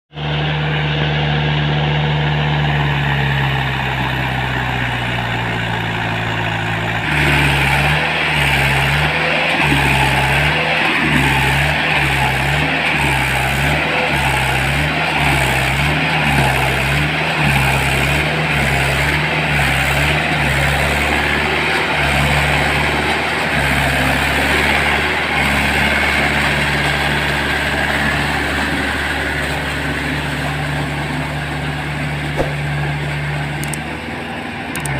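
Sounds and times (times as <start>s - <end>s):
tractor engine under load: 0.1s - 34.9s.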